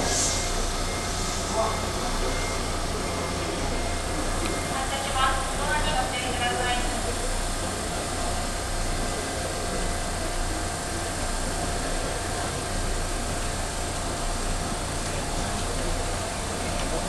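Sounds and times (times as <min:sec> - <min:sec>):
faint steady whine: 0:00.0 - 0:17.0
mechanical hum and hiss: 0:00.0 - 0:17.0.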